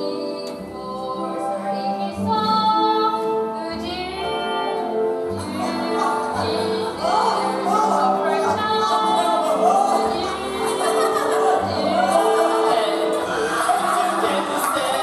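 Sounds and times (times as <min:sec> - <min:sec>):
woman singing with vibrato: 0:00.0 - 0:15.0.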